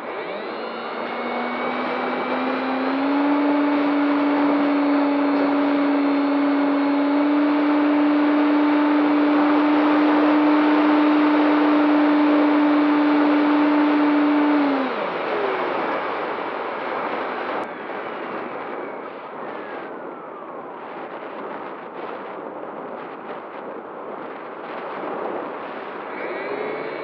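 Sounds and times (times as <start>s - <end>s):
electric motor and propeller drone: 0.0s - 27.0s.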